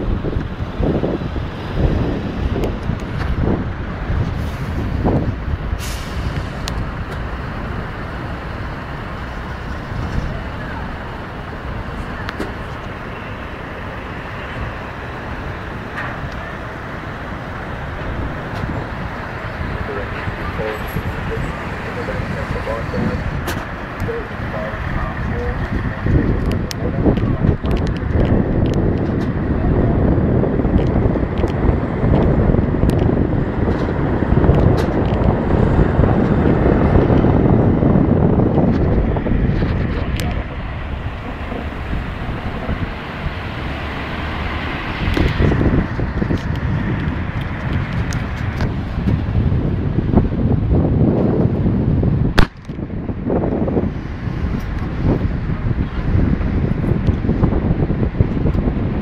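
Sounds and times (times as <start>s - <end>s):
road traffic rushing: 0.0s - 59.0s
wind buffeting microphone: 0.0s - 59.0s.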